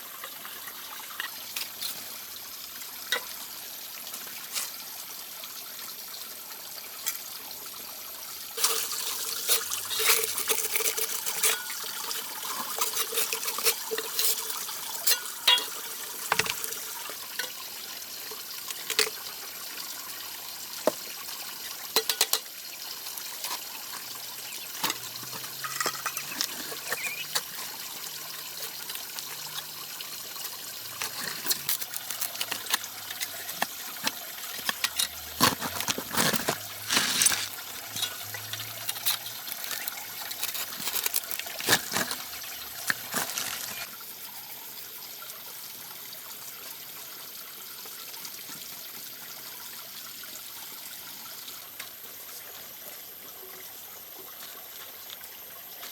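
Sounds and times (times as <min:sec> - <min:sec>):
running water trickling: 0:00.0 - 0:55.9.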